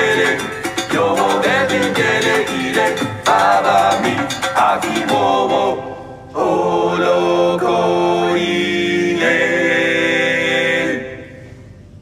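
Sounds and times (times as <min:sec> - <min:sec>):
group singing in harmony: 0:00.0 - 0:11.6.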